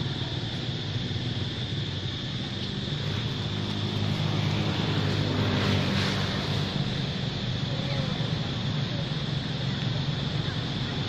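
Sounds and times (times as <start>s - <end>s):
engine humming: 0.0s - 11.0s
high-pitched hiss: 0.0s - 11.0s.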